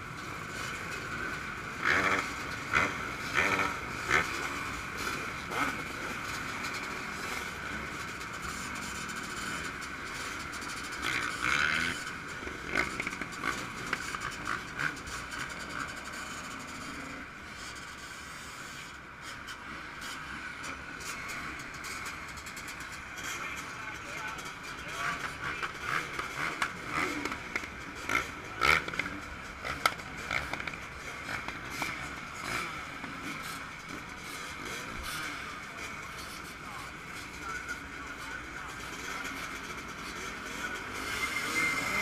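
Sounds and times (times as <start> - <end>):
motocross engine at high revs: 0.0 - 42.0.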